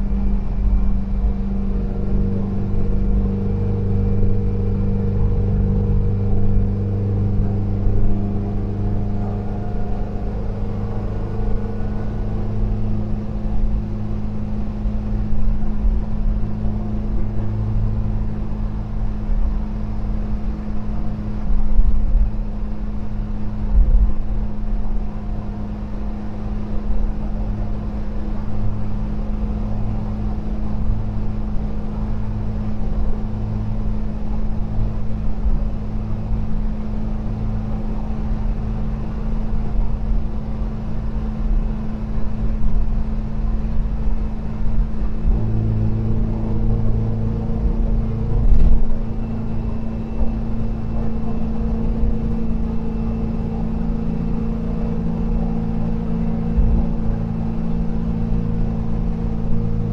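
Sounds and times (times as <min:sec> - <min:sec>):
road rumble: 0:00.0 - 0:59.9
van engine humming: 0:00.0 - 0:59.9.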